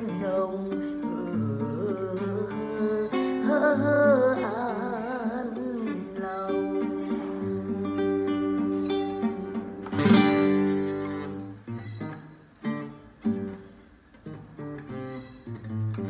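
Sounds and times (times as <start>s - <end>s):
acoustic guitar plucked notes: 0.0s - 16.0s
acoustic guitar strummed chord: 0.0s - 16.0s.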